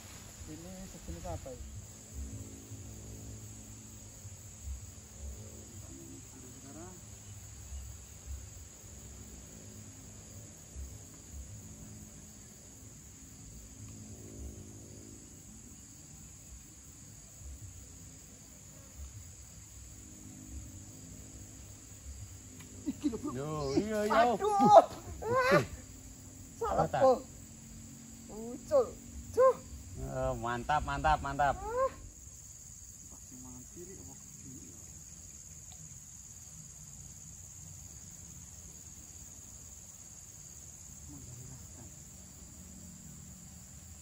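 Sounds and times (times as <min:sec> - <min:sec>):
insects chirring: 0:00.0 - 0:44.0.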